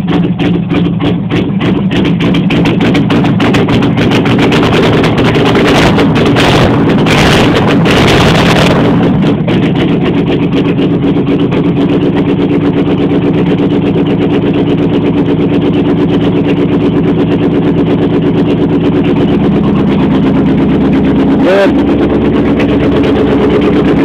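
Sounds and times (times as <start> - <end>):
loud engine idling: 0.0 - 24.0.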